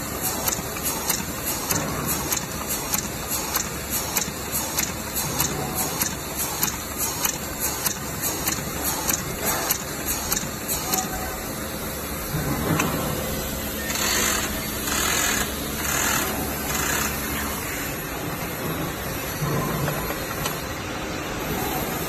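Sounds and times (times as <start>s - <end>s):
filling machine humming: 0.0s - 22.0s.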